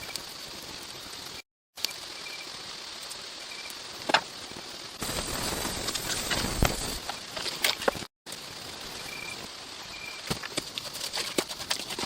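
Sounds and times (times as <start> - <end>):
insect hum: 0.0 - 12.0.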